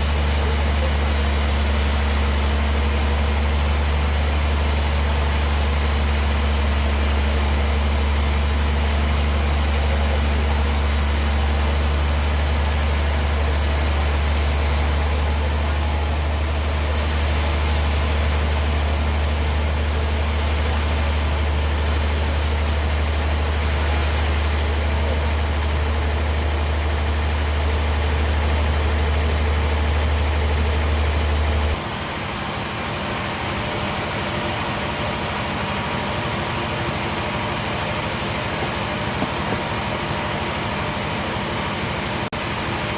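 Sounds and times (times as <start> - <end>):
sawmill deep hum: 0.0 - 42.9.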